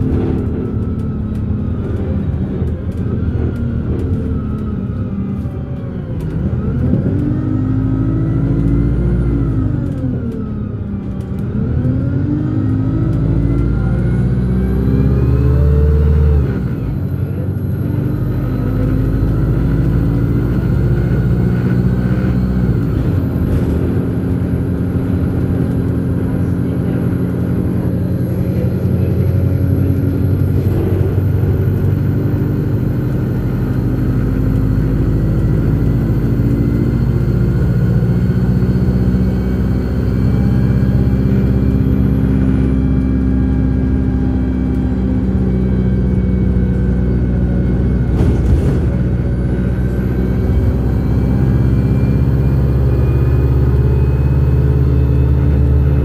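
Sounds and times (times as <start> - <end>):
bus engine drone: 0.0 - 56.0
tyre and road noise: 0.0 - 56.0.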